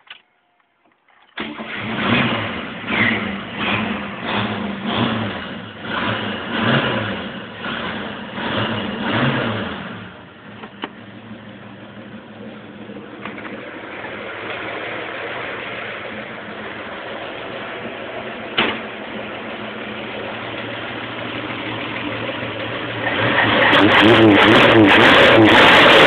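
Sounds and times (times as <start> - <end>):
car engine revving and idling: 1.4 - 26.0.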